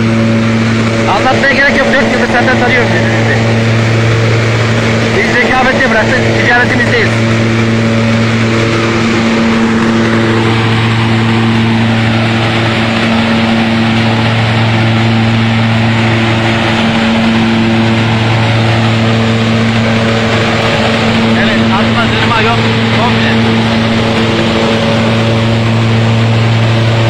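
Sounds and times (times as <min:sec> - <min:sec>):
husking machine running: 0:00.0 - 0:27.0.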